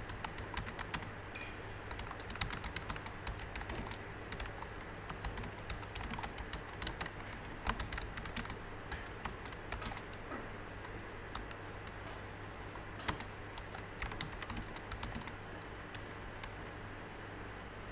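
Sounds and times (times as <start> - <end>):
computer keyboard typing: 0.0 - 1.1, 1.9 - 16.6.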